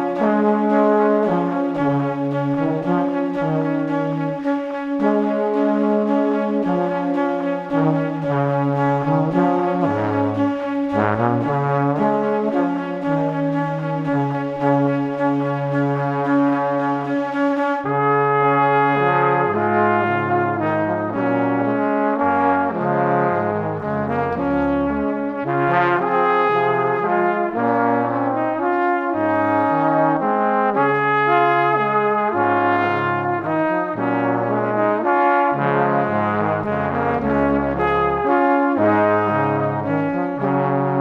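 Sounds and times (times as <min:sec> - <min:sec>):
brass-like melodic notes: 0:00.0 - 0:41.0
moving bass line: 0:00.0 - 0:41.0.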